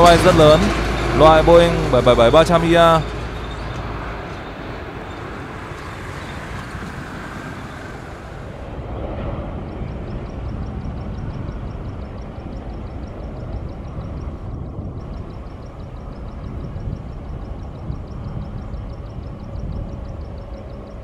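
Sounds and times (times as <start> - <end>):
faint high ticking: 0.0 - 21.0
low jet engine rumble: 0.0 - 21.0.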